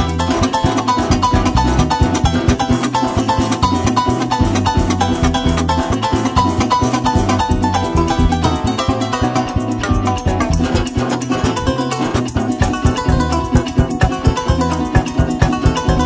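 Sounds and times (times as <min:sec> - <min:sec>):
fast plucked string music: 0:00.0 - 0:16.0
steady bass line: 0:00.0 - 0:16.0.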